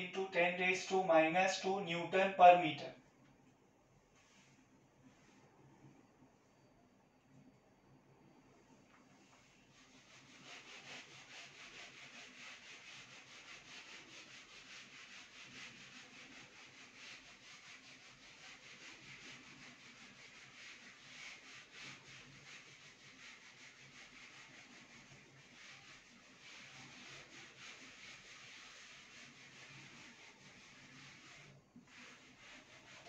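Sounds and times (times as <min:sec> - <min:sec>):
eraser rubbing on whiteboard: 0:00.0 - 0:02.8, 0:09.2 - 0:33.0.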